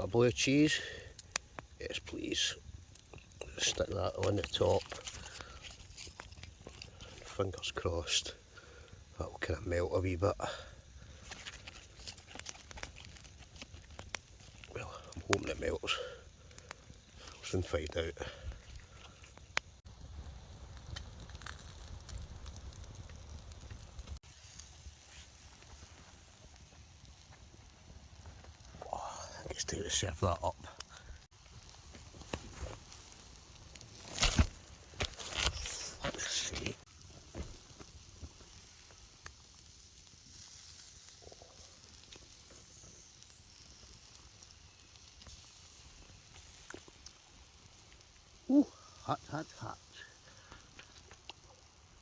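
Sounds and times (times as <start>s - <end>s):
campfire crackling and popping: 0.0s - 52.0s
steaks sizzling on a grill: 0.0s - 52.0s.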